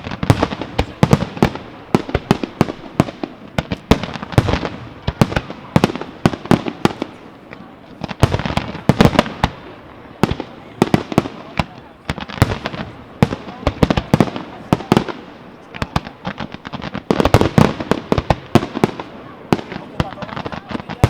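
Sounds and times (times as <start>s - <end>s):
firework bangs: 0.0s - 21.0s
firework crackle: 0.0s - 21.0s.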